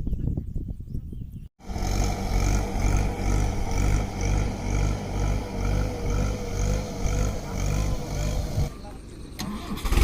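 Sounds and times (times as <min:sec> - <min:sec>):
tractor diesel engine pulsing: 0:01.6 - 0:10.0.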